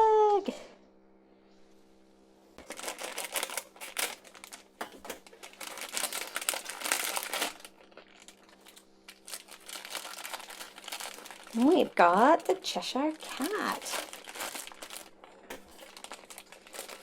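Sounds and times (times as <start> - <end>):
packaging crinkling and tearing: 2.6 - 17.0.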